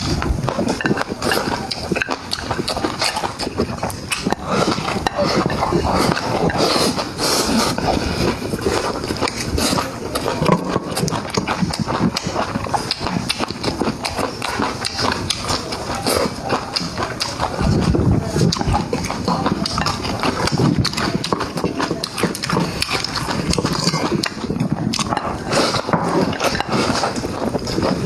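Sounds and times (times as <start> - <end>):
chewing and mouth smacking: 0.0 - 28.0.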